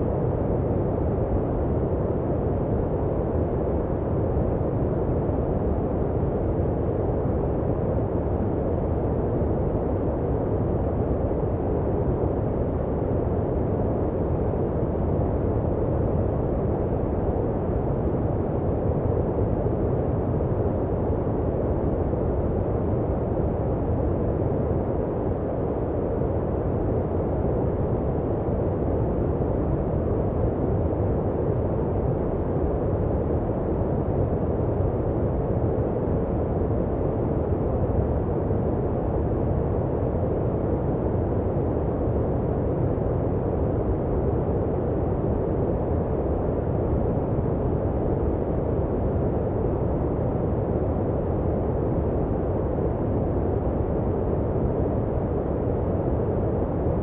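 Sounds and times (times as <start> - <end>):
deep muffled white noise: 0.0 - 57.0.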